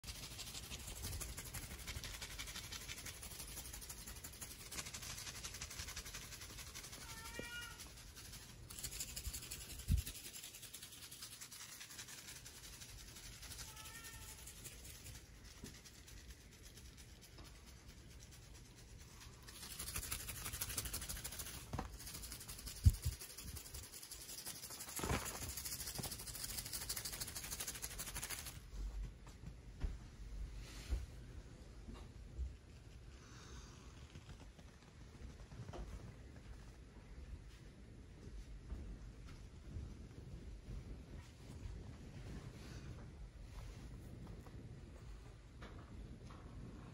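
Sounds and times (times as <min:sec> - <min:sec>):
soft rustling: 0:00.1 - 0:46.9.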